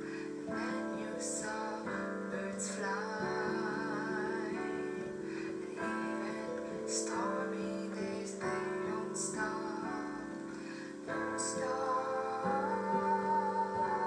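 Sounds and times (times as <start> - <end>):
soft instrumental accompaniment: 0.0 - 14.0
woman singing: 0.0 - 14.0.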